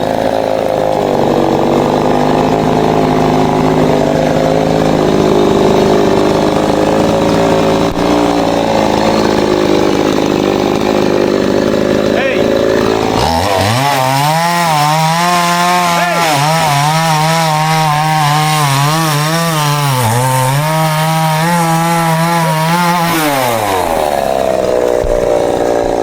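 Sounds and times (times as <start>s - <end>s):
chainsaw cutting timber: 0.0s - 26.0s.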